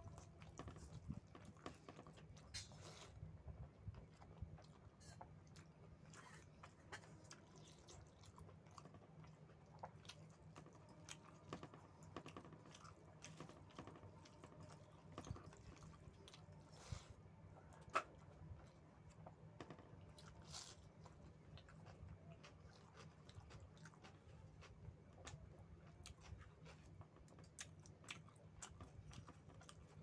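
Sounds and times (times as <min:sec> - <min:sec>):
person chewing food: 0:00.0 - 0:30.0.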